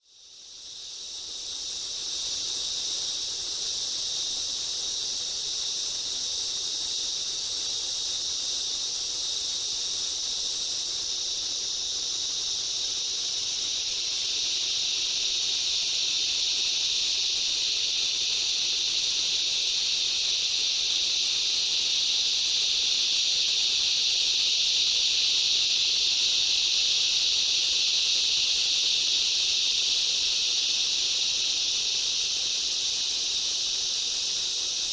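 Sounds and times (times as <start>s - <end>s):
insect chorus shrill hiss: 0.0s - 34.9s.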